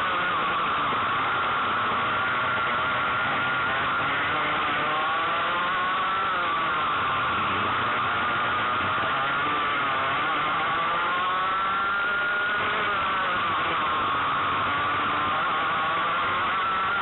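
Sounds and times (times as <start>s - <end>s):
racing kart engine at high revs: 0.0s - 17.0s.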